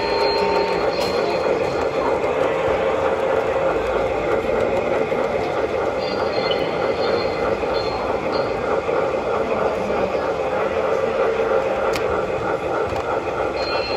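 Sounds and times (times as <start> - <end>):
model train wheels rolling: 0.0 - 13.9
steam chuffing from speaker: 0.0 - 13.9.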